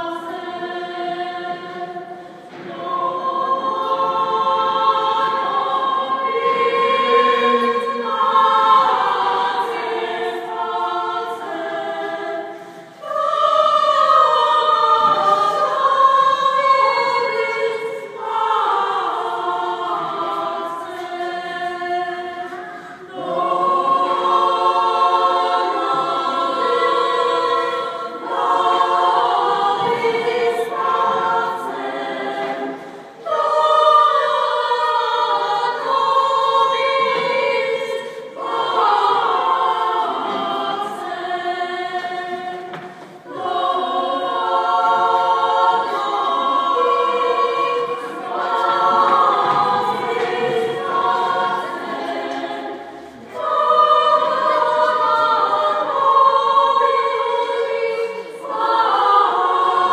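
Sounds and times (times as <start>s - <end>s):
female choir singing: 0.0s - 59.9s.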